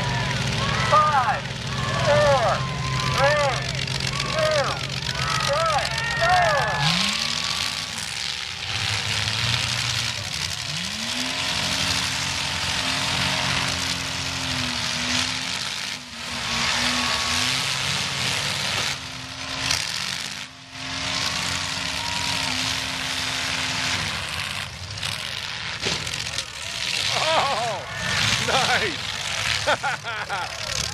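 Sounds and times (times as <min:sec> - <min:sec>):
car engine revving: 0:00.0 - 0:30.9
engines of other cars: 0:00.0 - 0:30.9.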